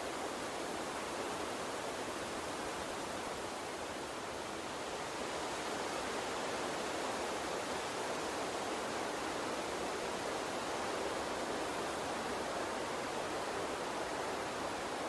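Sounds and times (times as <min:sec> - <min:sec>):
small stream running: 0:00.0 - 0:15.0.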